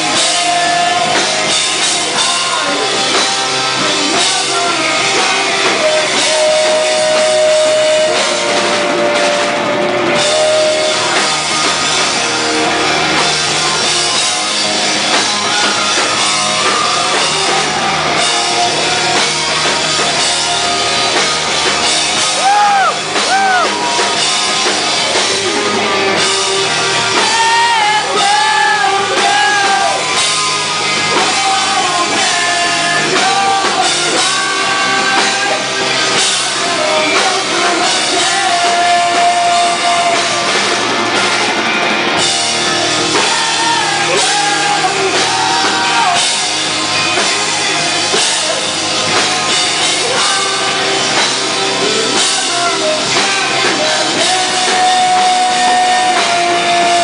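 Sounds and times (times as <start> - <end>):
bass guitar: 0.0 - 57.0
distorted electric guitars: 0.0 - 57.0
drum kit: 0.0 - 57.0
lead vocal singing: 0.0 - 57.0.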